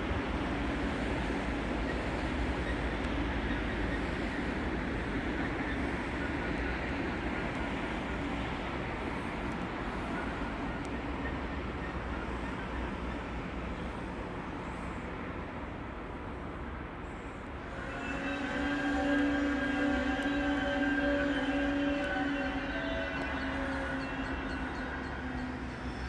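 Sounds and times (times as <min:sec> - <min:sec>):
train rumbling along tracks: 0:00.0 - 0:26.0.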